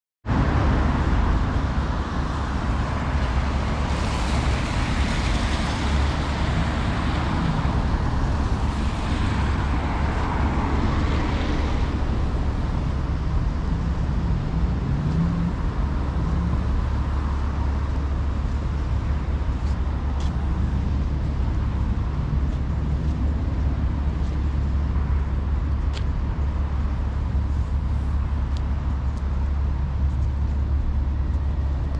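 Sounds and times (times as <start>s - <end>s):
road traffic rumble: 0.2s - 31.9s.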